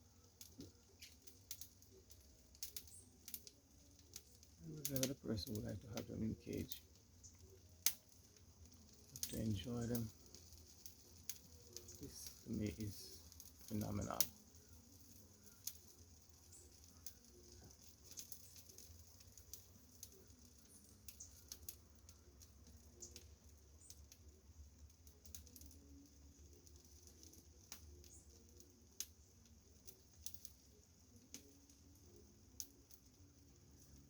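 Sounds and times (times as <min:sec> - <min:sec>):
birds pecking seed: 0:00.0 - 0:34.0
faint high hiss: 0:00.0 - 0:34.0.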